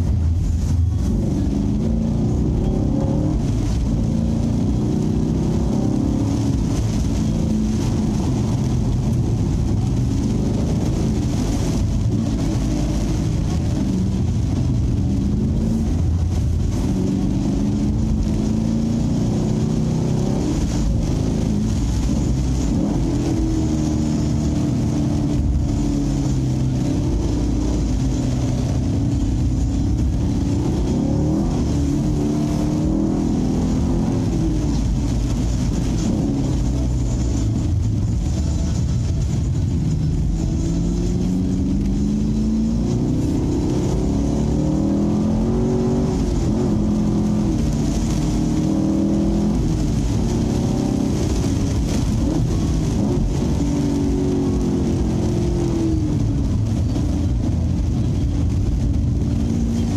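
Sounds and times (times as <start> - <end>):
car engine accelerating and easing off: 0.0 - 59.9.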